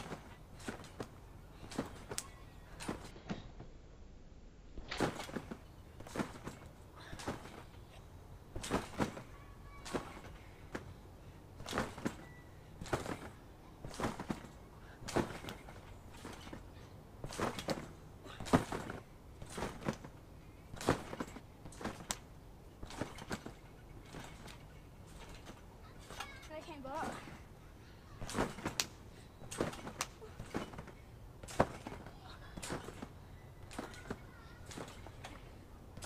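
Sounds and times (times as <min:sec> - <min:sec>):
thumps of landing on trampoline: 0:00.0 - 0:03.6, 0:04.8 - 0:11.0, 0:11.6 - 0:27.5, 0:28.1 - 0:36.0.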